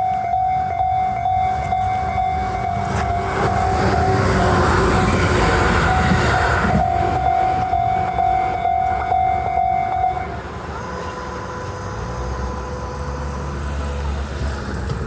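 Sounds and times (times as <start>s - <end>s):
level-crossing warning bell: 0.0s - 13.6s.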